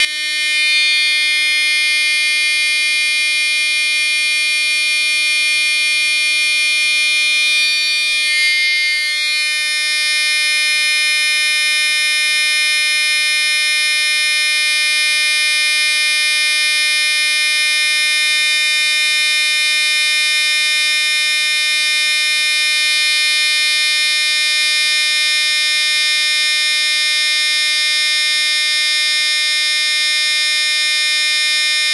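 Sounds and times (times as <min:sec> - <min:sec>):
buzzy fire alarm horn: 0:00.0 - 0:31.9.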